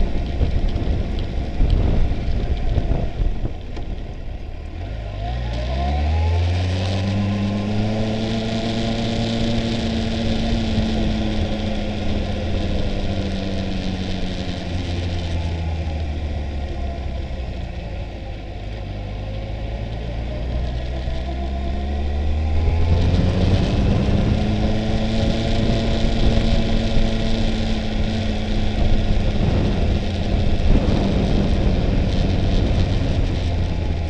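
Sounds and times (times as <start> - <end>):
wind rushing over microphone: 0.0 - 18.2, 18.9 - 34.0
motorcycle engine: 0.0 - 34.0.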